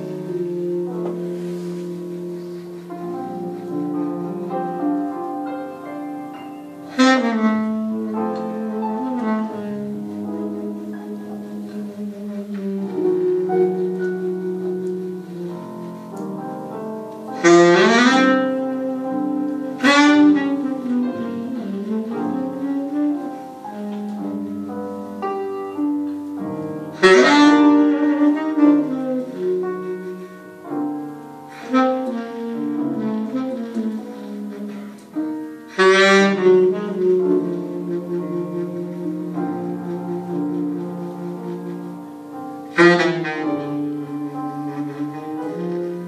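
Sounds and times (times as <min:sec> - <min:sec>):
piano chords: 0:00.0 - 0:46.0
saxophone melody: 0:00.0 - 0:46.0.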